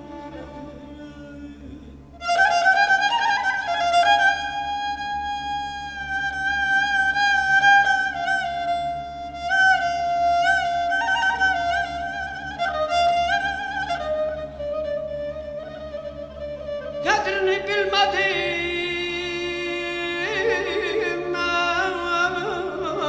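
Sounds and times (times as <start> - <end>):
bowed fiddle melody: 0.0 - 23.0.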